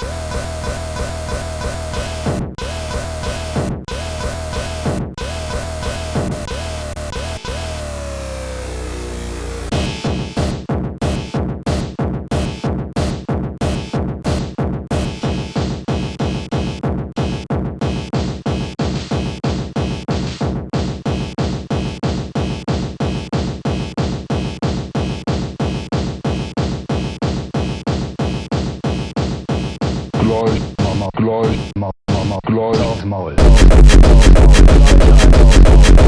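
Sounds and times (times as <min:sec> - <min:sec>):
fast techno music: 0:00.0 - 0:36.0.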